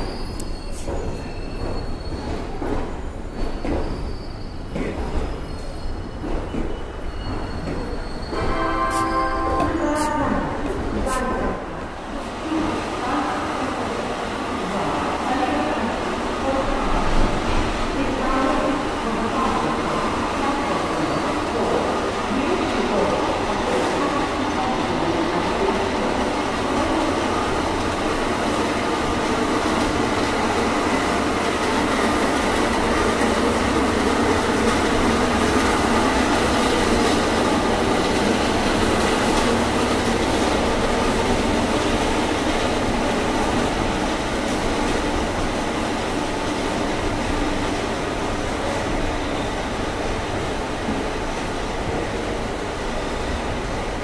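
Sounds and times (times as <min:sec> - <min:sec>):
train wheels on rails: 0:00.0 - 0:13.0, 0:15.8 - 0:54.0.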